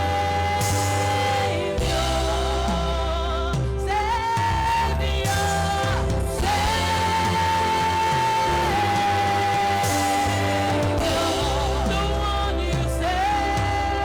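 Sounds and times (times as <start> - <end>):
bass line: 0.0 - 14.0
gospel band playing: 0.0 - 14.0
person singing long notes: 0.0 - 14.0.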